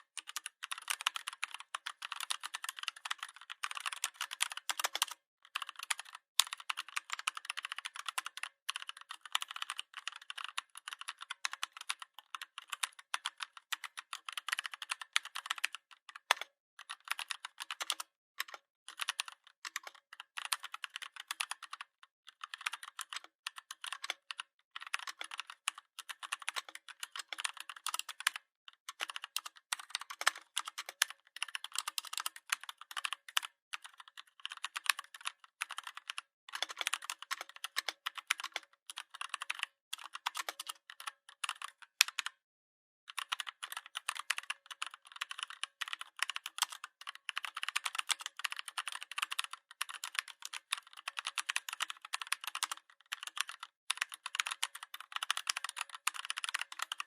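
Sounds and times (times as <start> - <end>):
computer keyboard typing: 0.0 - 42.4, 43.1 - 57.0.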